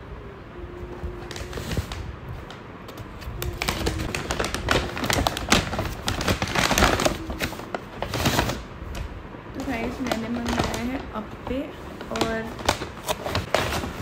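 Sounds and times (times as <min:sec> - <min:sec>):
paper bag rustling and crinkling: 0:01.0 - 0:14.0.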